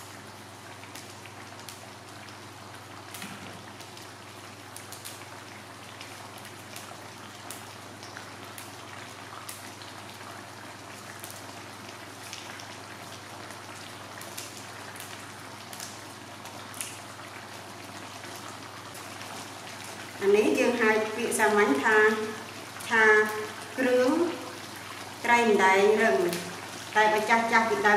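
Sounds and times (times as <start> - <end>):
fish sizzling in a wok: 0.0 - 27.9.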